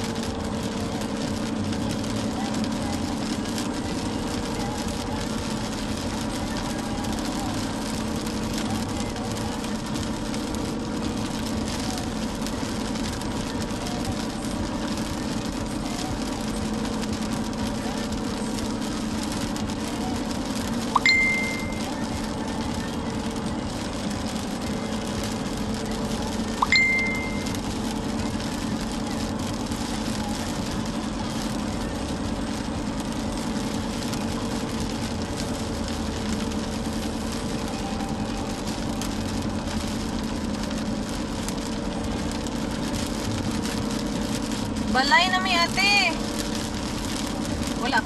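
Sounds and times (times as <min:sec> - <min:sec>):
car interior hum: 0:00.0 - 0:48.0
heavy rain: 0:00.0 - 0:48.0.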